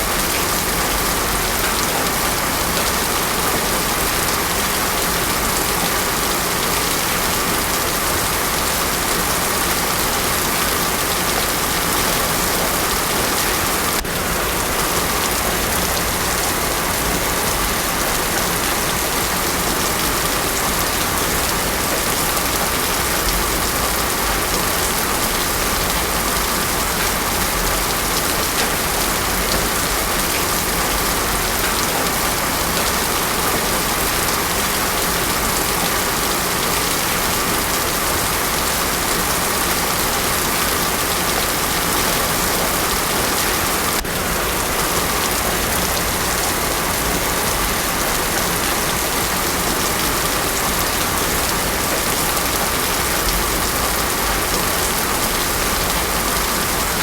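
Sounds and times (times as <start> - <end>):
heavy rain on a road: 0.0 - 57.0.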